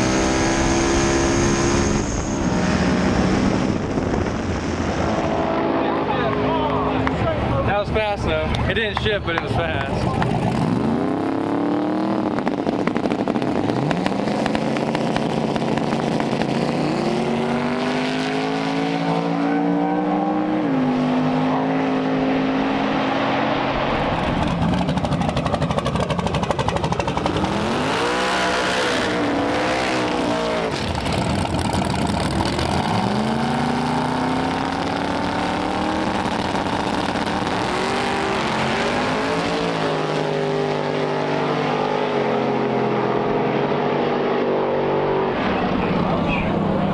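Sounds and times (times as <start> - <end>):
drag racing car engines revving: 0.0 - 46.9.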